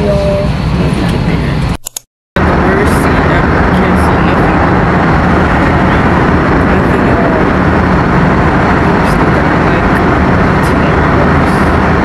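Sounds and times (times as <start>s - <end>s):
vehicle rushing noise with low hum: 0.0s - 1.8s, 2.4s - 12.0s.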